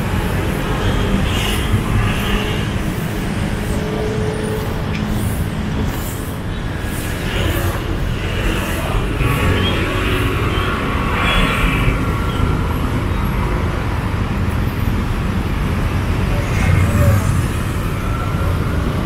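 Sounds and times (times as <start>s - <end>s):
passing vehicles: 0.0s - 19.0s.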